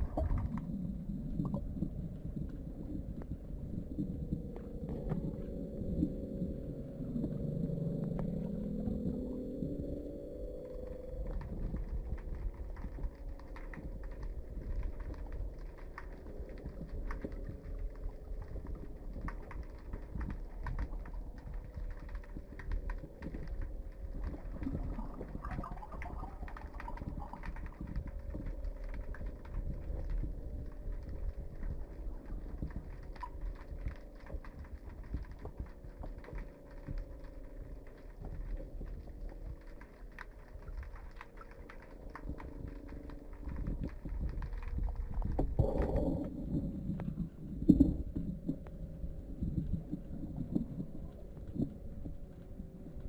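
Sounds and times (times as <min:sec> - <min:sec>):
underwater clicks and knocks: 0:00.0 - 0:00.7, 0:01.4 - 0:06.1, 0:11.2 - 0:53.0
underwater low rumble: 0:00.0 - 0:53.0.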